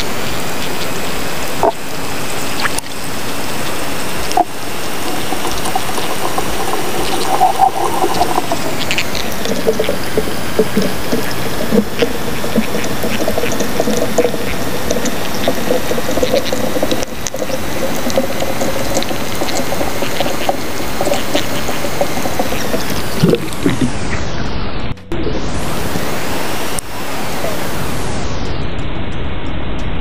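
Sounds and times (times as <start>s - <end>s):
crackling clicks underwater: 0.0s - 24.1s
underwater hiss and hum: 0.0s - 28.5s.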